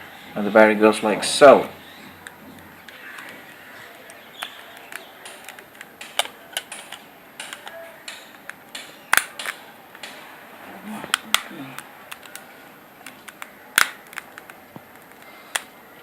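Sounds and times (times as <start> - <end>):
plastic phone parts clicking: 1.9 - 16.0.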